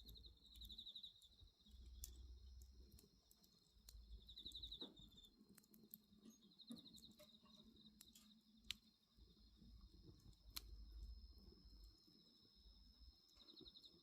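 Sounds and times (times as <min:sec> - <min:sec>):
crickets chirping: 0:00.0 - 0:14.0
insect song: 0:00.0 - 0:14.0
wood fire crackling: 0:00.0 - 0:14.0.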